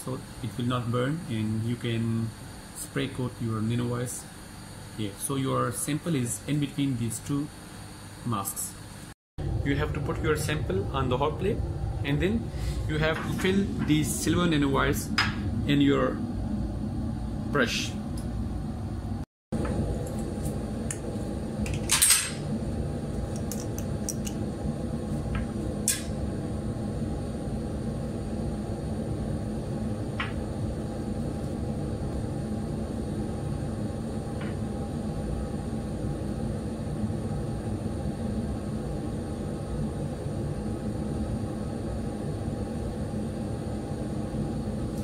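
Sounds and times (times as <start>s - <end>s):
fume hood ventilation hum: 0.0s - 45.0s.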